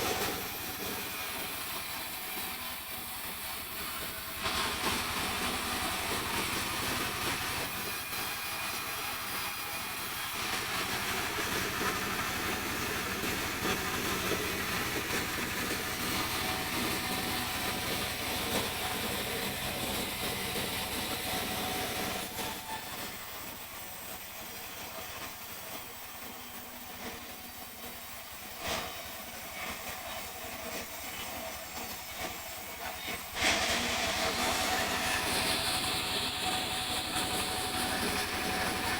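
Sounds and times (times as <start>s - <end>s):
saw cutting through a log: 0.0s - 38.9s.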